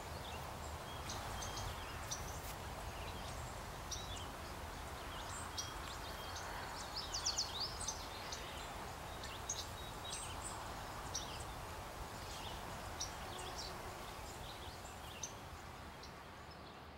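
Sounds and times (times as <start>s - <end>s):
low background noise: 0.0s - 16.9s
small birds chirping: 0.0s - 16.9s.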